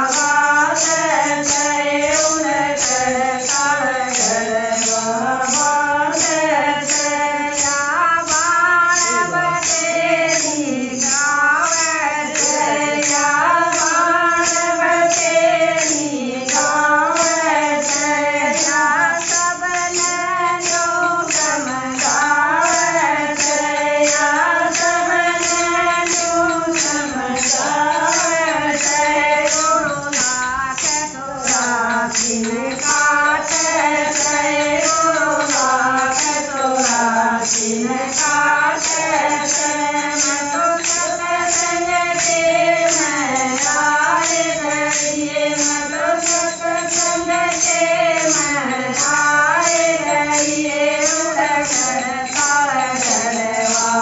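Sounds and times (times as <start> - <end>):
shaken jingle rattles: 0.0 - 54.0
women singing devotional song: 0.0 - 54.0.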